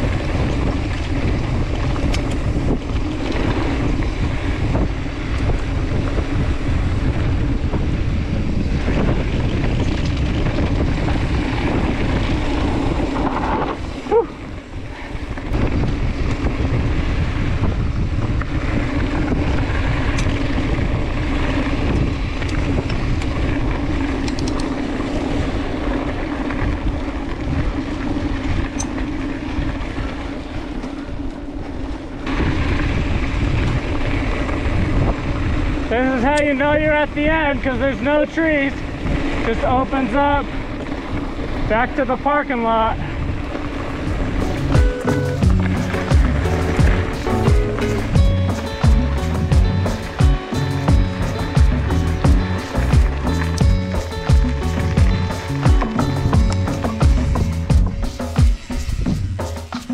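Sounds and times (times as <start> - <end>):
bike tyres rolling over dirt: 0.0 - 59.4
wind buffeting microphone: 0.0 - 59.6.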